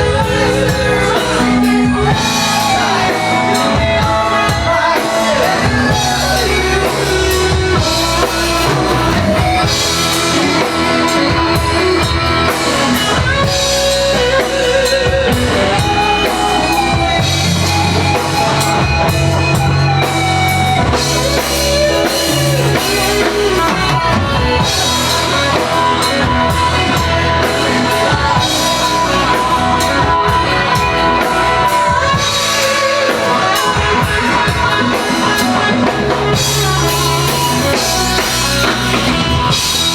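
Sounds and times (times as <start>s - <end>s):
lead singer: 0.0s - 39.9s
live rock band playing: 0.0s - 39.9s.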